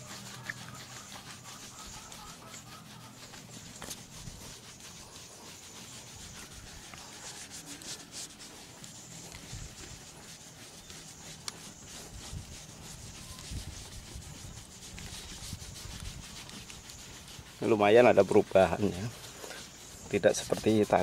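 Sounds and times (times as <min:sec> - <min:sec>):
applicator pad scrubbing car paint: 0:00.0 - 0:21.0.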